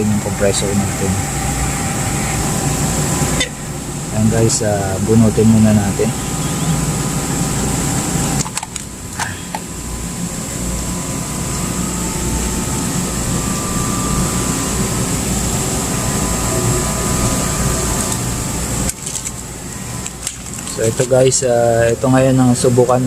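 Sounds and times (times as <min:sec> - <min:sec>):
low mechanical hum with hiss: 0:00.0 - 0:23.0.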